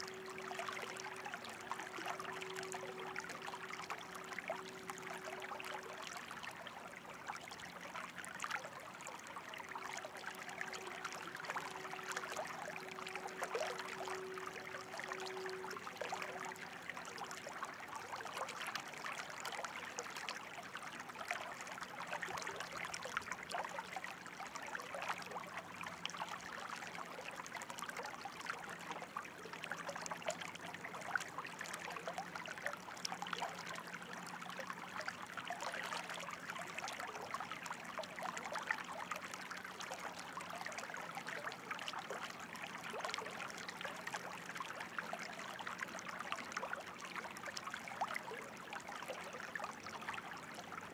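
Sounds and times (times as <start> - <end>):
running water trickling: 0.0 - 50.9.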